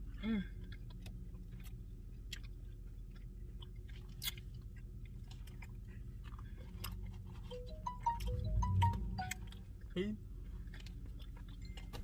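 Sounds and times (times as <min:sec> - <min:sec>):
close-up chewing: 0:00.0 - 0:08.2, 0:09.2 - 0:12.0
low hum inside a car: 0:00.0 - 0:12.0.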